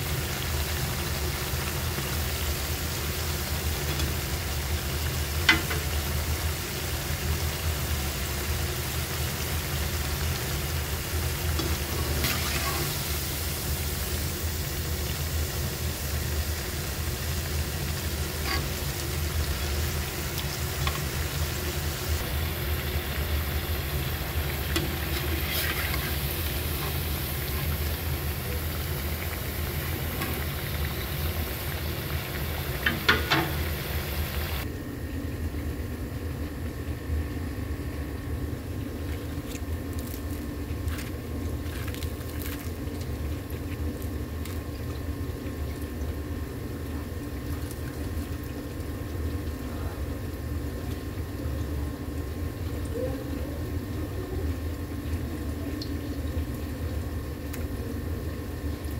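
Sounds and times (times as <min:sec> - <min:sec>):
food deep-frying in oil: 0:00.0 - 0:58.9
steady low hum: 0:00.0 - 0:58.9.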